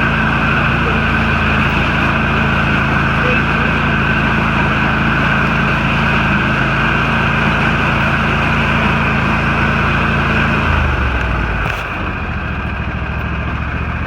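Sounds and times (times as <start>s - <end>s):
lawn tractor engine running: 0.0s - 14.0s.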